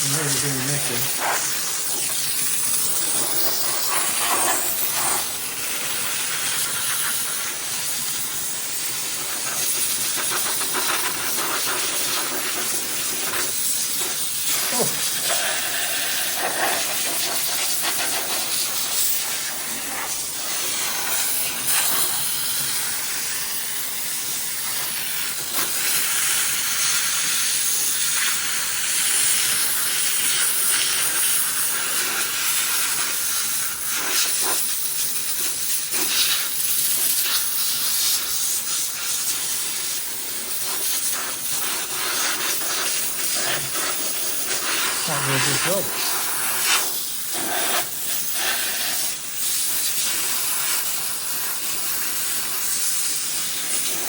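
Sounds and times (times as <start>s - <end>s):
steam cleaner hissing: 0.0s - 54.0s.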